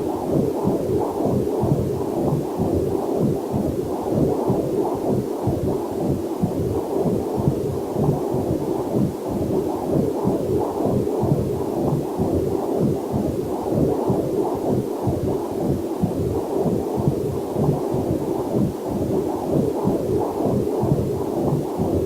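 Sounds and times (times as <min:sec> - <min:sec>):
fetal heartbeat whooshing pulses: 0:00.0 - 0:22.0.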